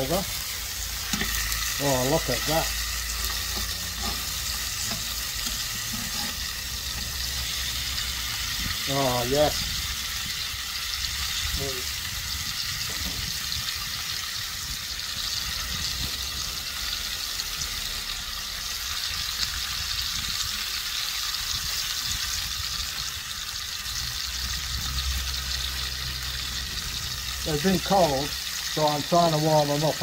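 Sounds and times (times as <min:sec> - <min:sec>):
ribs sizzling: 0:00.0 - 0:30.0.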